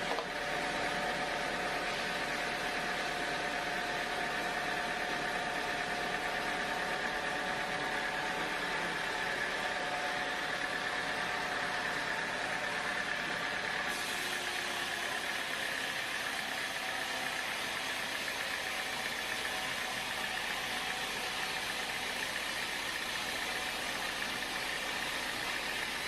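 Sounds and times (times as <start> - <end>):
sawmill machinery running: 0.0 - 26.0.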